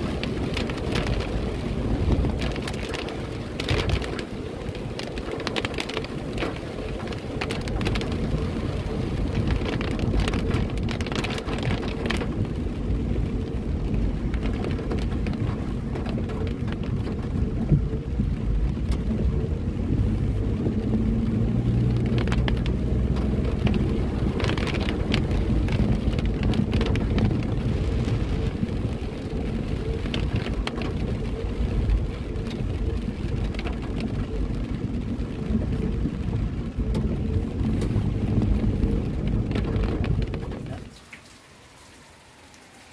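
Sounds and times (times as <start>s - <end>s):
rain ticking on windshield: 0.0s - 42.9s
rumble of tyres and engine: 0.0s - 42.9s.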